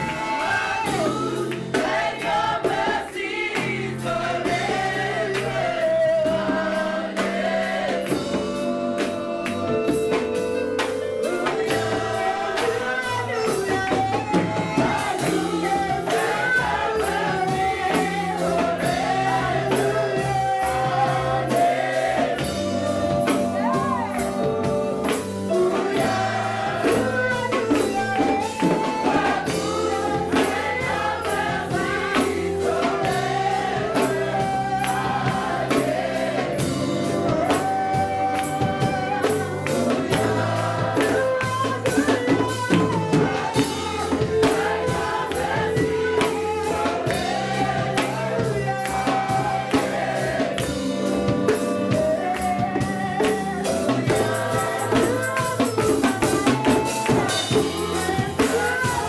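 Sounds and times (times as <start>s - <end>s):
congregation singing: 0.0s - 59.0s
instrumental accompaniment: 0.0s - 59.0s
percussion beat: 0.0s - 59.0s
rhythmic hand clapping: 0.0s - 59.0s.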